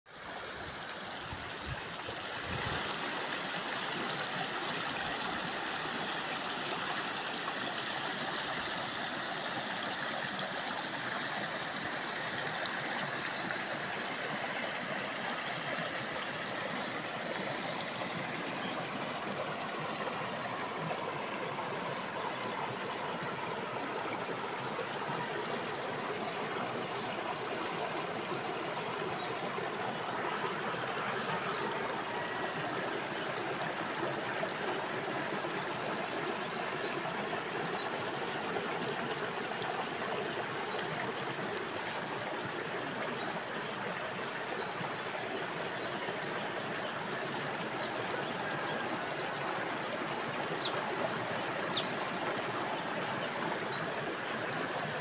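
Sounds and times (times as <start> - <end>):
stream flowing over stones: 0.1 - 55.0.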